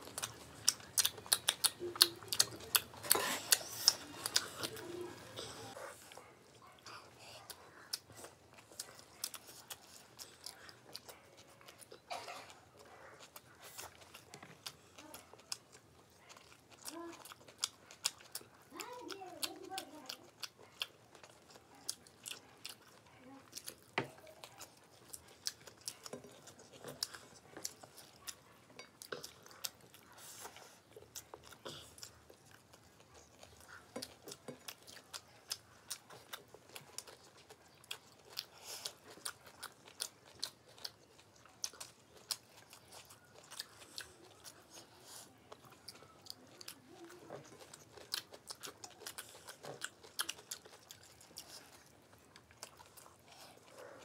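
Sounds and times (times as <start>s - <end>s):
people chewing food: 0.0s - 54.0s.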